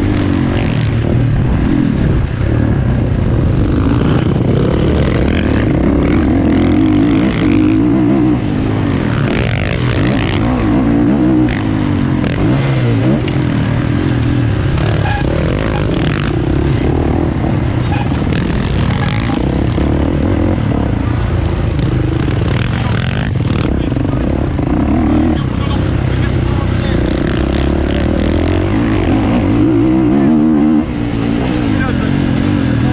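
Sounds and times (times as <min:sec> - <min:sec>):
motocross bike engine revving: 0:00.0 - 0:32.9.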